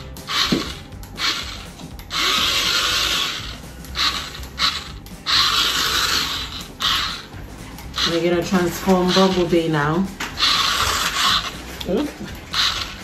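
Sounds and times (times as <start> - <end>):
toy robot motors whirring: 0.0 - 13.0.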